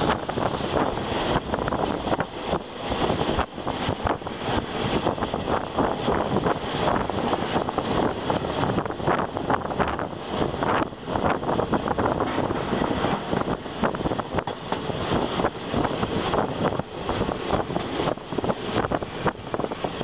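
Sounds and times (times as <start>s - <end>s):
train wheels rumbling and clattering: 0.0s - 20.0s
wind buffeting microphone: 0.0s - 20.0s.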